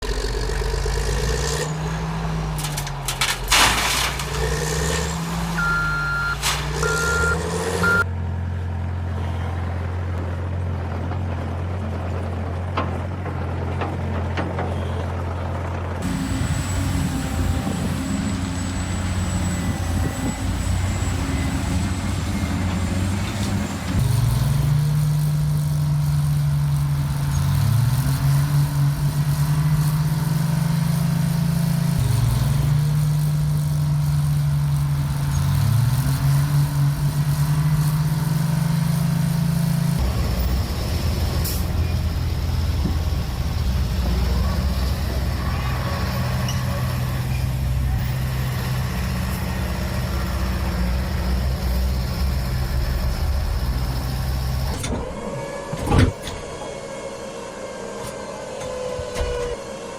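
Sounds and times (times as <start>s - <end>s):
diesel engine running and revving: 0.0s - 59.9s.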